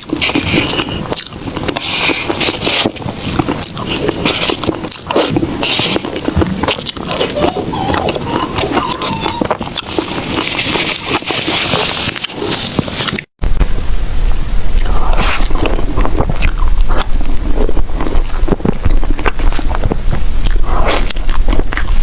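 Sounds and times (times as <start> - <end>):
chewing soft food: 0.0 - 13.3, 14.7 - 22.0
wet mouth clicks: 0.0 - 13.3, 14.8 - 22.0.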